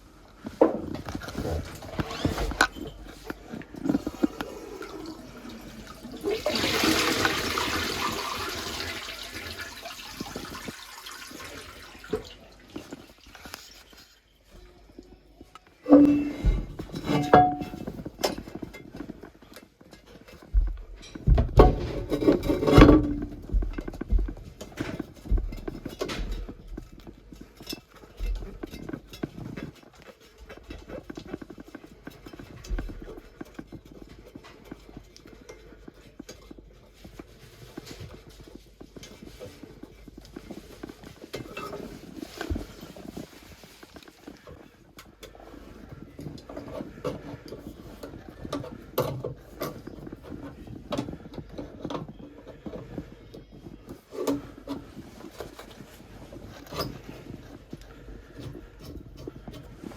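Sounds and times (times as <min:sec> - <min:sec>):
knocks and taps of plumbing work: 0:00.5 - 0:14.1, 0:15.8 - 0:59.9.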